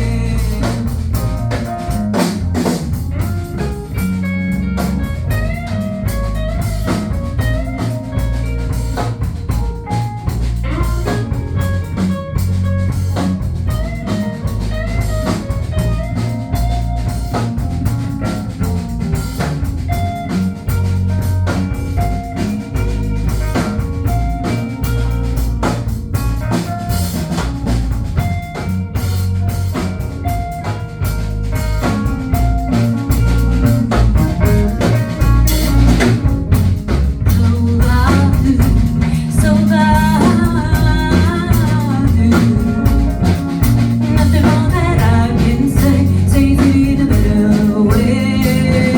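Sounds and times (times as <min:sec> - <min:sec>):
drum kit steady beat: 0:00.0 - 0:48.9
guitar melody: 0:00.0 - 0:48.9
heavy bass line: 0:00.0 - 0:48.9.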